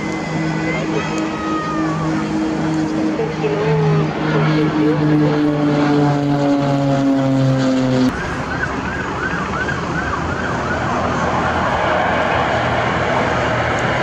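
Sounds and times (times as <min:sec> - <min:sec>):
siren-like warbling tone: 0:00.0 - 0:12.2
propeller plane flying overhead: 0:00.0 - 0:14.0.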